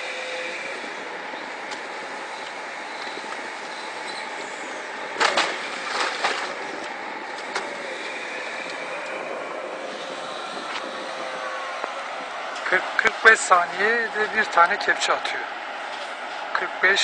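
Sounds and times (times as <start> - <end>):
excavator running: 0.0 - 17.0.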